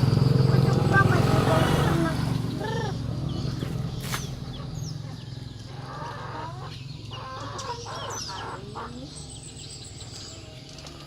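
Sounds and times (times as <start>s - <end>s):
chickens clucking: 0.2s - 9.4s.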